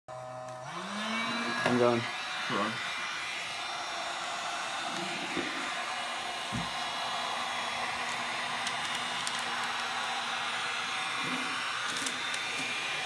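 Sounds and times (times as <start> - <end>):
heat gun fan blowing: 0.1 - 13.0.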